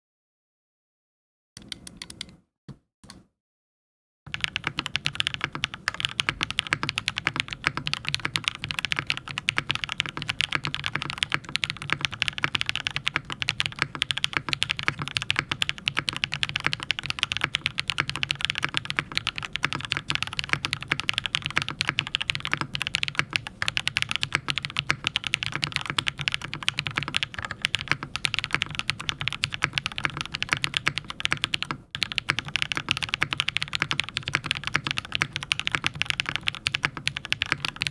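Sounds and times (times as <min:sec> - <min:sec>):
fast typing on mechanical keyboard: 0:04.3 - 0:37.9.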